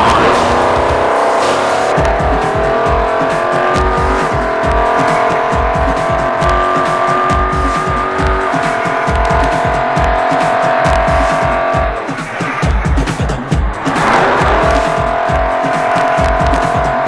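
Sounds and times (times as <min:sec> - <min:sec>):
low thumps: 0:00.0 - 0:17.0
truck engine at high revs: 0:00.0 - 0:17.0.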